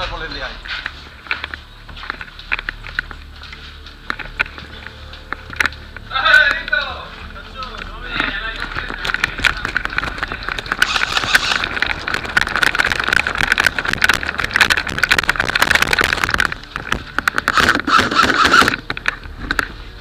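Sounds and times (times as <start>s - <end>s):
footsteps crunching on gravel: 0.0s - 18.0s.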